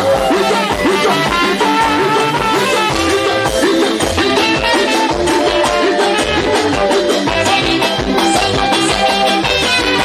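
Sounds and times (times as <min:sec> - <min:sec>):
guitars playing: 0:00.0 - 0:10.0
steady drum beat: 0:00.0 - 0:10.0.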